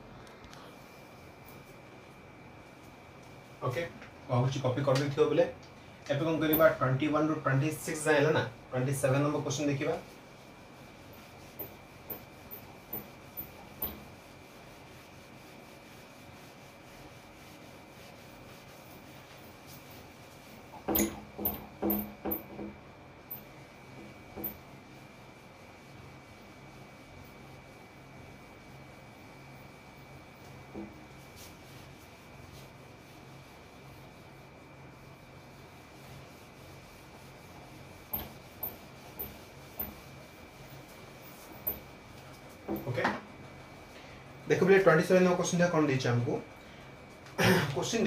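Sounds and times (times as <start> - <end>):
thin high whine: 0.0 - 48.0
duster rubbing on whiteboard: 6.2 - 45.9.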